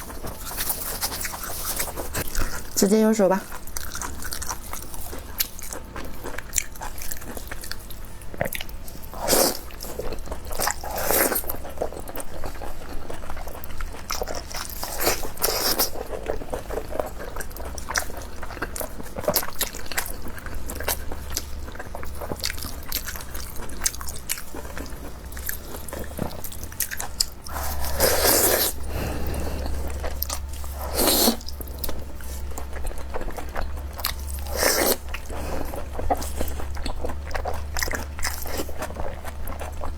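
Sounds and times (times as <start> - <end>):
person chewing food: 0.0 - 2.8, 3.4 - 39.9
steady low hum: 0.0 - 39.9.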